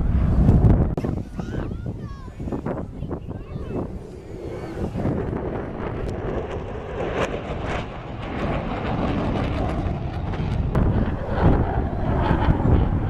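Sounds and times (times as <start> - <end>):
jet engine roar: 0.0 - 13.0
wind on microphone: 0.0 - 13.0.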